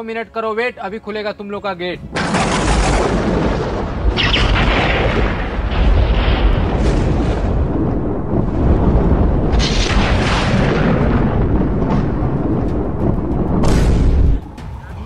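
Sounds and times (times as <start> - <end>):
deep rumbling: 2.0 - 15.0.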